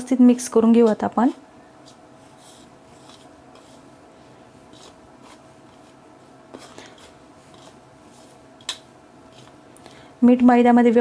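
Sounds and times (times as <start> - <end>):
flour stirred in a bowl: 0.4 - 10.2.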